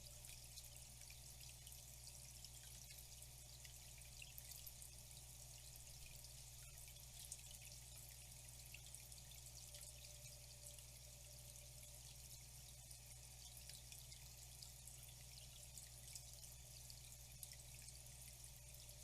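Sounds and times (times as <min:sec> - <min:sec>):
water trickling and dripping: 0:00.0 - 0:19.0.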